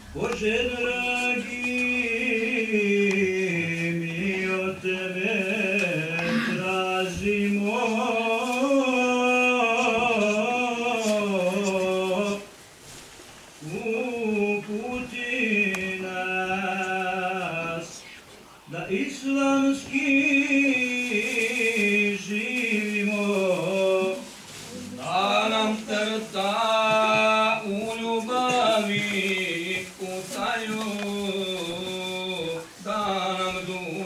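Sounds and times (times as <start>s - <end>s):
man chanting devotional recitation: 0.0s - 12.6s, 13.5s - 34.0s.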